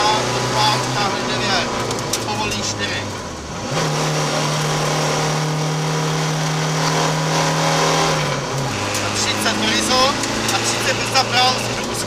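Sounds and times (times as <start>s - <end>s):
car engine revving: 0.0s - 12.0s
road and tyre noise: 0.0s - 12.0s.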